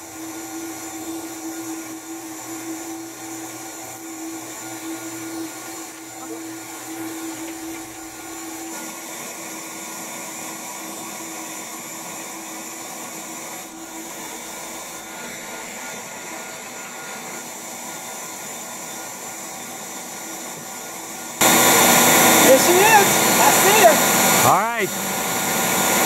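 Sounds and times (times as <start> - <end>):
vacuum suction humming: 0.0 - 26.0.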